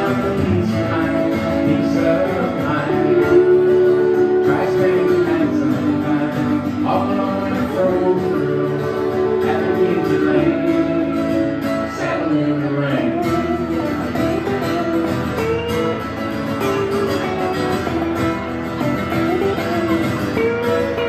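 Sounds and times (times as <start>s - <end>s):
electric guitar: 0.0s - 21.0s
live band playing country-folk song: 0.0s - 21.0s
strummed acoustic guitar: 0.0s - 21.0s.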